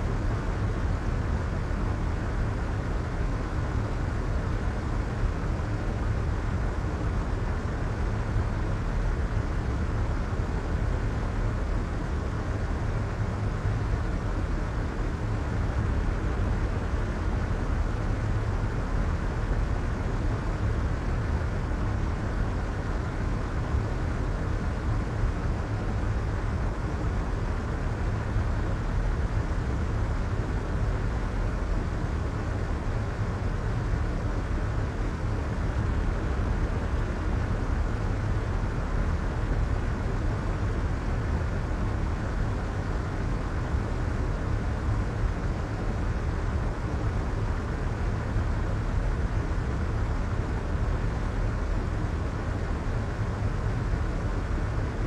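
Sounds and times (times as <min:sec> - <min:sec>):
low white noise hiss: 0:00.0 - 0:55.0.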